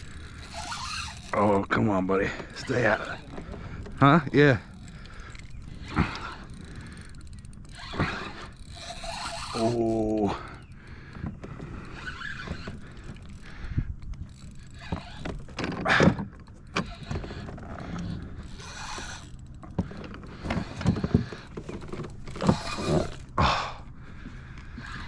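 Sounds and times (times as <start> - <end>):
fishing reel cranking: 0.0 - 23.7, 24.4 - 25.0.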